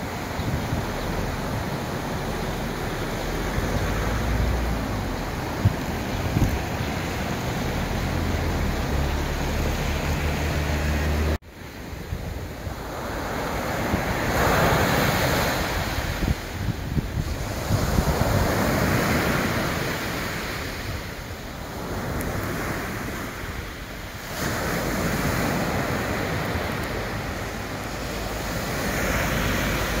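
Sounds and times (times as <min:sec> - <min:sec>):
rushing river water: 0:00.0 - 0:30.0
sea waves breaking: 0:00.0 - 0:30.0
wind rumbling on microphone: 0:00.0 - 0:30.0.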